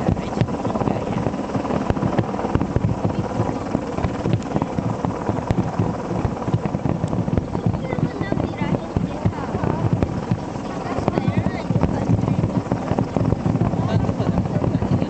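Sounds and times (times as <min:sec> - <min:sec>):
fireworks bangs and crackles: 0:00.0 - 0:15.0
low rumble of fireworks: 0:00.0 - 0:15.0.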